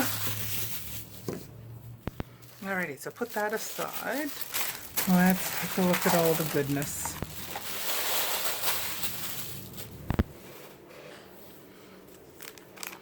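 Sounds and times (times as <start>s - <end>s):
paper and packaging rustling: 0.0s - 10.8s, 12.1s - 13.0s.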